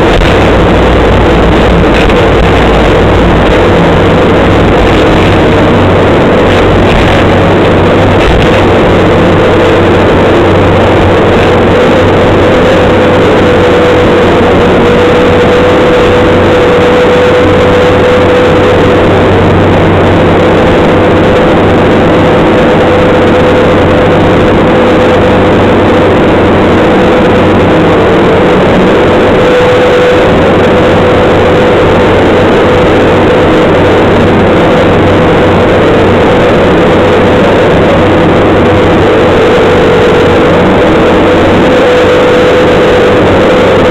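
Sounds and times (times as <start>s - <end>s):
diesel engine running: 0.0s - 43.9s
high whine: 0.0s - 43.9s.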